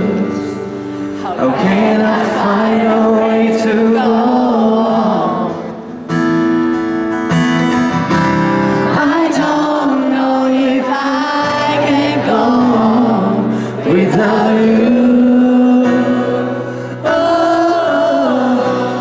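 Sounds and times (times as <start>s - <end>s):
person singing: 0.0s - 5.9s, 8.8s - 19.0s
guitar chords: 0.0s - 19.0s
live pop-rock band: 0.0s - 19.0s.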